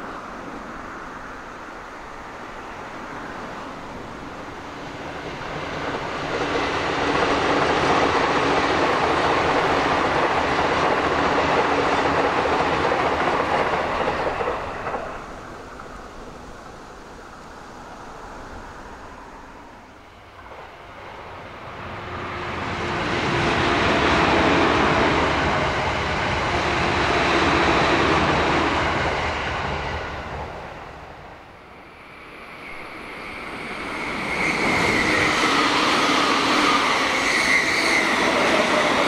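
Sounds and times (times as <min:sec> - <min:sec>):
rushing air: 0:00.0 - 0:39.0
train passing: 0:00.0 - 0:39.0
wheels on rail: 0:00.0 - 0:39.0.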